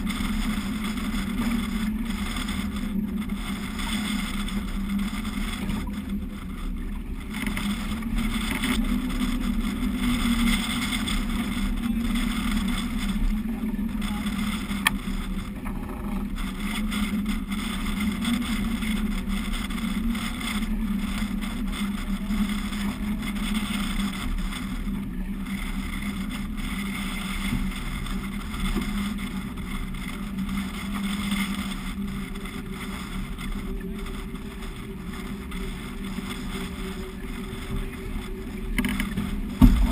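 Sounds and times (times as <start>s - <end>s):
wind and water rushing around hull: 0.0s - 39.9s.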